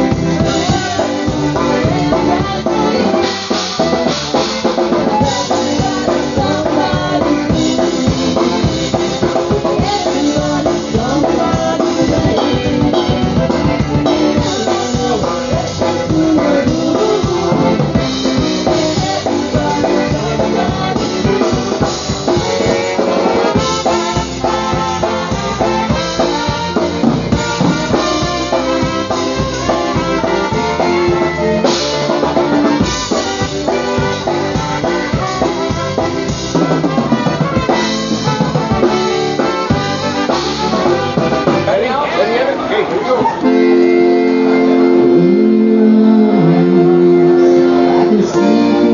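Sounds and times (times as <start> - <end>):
drum kit beat: 0.0 - 42.0, 43.2 - 48.9
polka band playing: 0.0 - 48.9.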